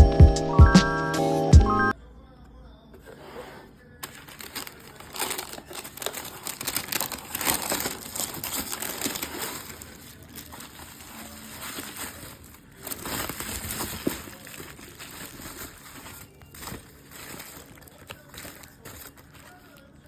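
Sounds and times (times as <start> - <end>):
rustling and crinkling with clicks: 3.0 - 20.0.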